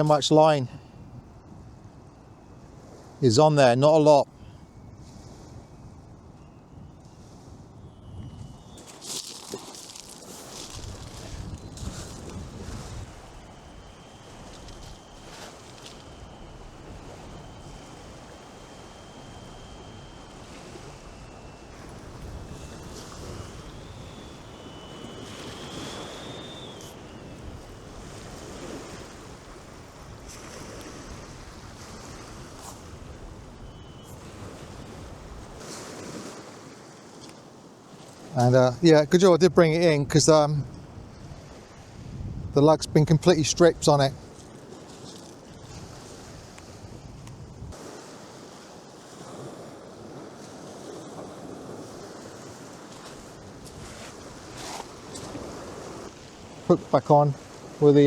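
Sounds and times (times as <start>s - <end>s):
wind buffeting microphone: 0.0s - 3.3s, 4.2s - 58.0s
surf washing on beach: 0.0s - 6.4s, 7.0s - 58.0s.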